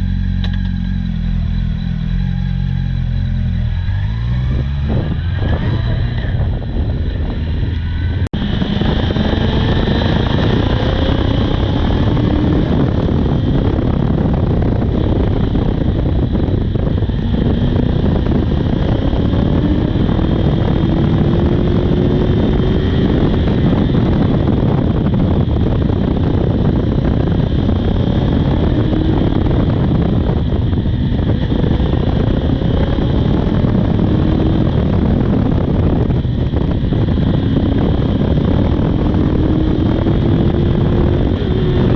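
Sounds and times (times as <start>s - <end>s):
motorcycle engine running: 0.0s - 41.9s
rushing wind noise: 0.0s - 41.9s.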